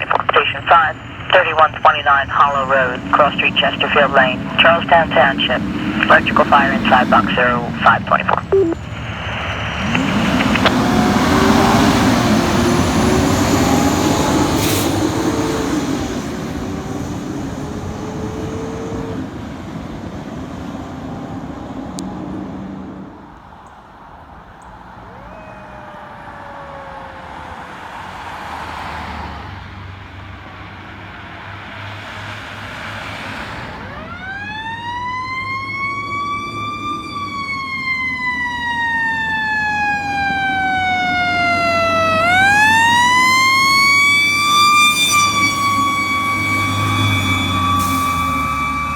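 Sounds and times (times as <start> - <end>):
fire truck sirens: 0.0 - 48.9
heavy diesel engines passing: 0.0 - 48.9.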